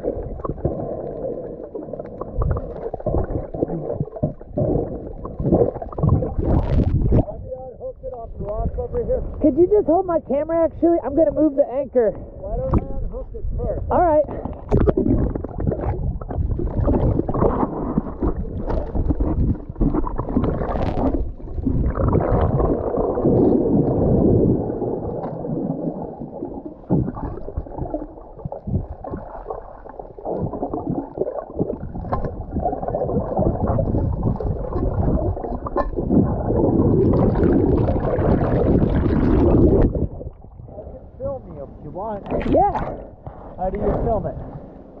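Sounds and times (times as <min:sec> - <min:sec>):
water gurgling and sloshing: 0:00.0 - 0:45.0.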